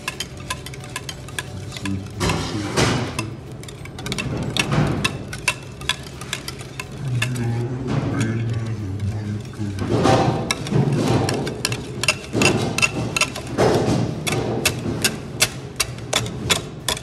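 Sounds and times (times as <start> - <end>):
utensil tapping against bowl: 0.0 - 17.0.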